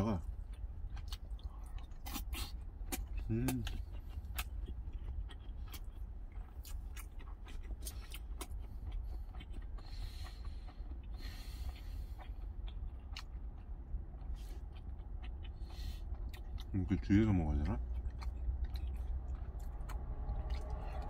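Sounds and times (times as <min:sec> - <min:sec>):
person chewing food: 0:00.0 - 0:21.0
steady low rumble: 0:00.0 - 0:21.0.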